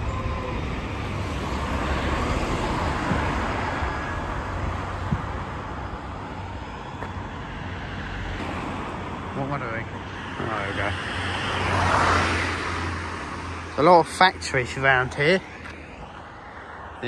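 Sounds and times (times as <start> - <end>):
car passing close by: 0.0 - 5.0, 7.6 - 16.9
bus driving off: 0.0 - 14.0.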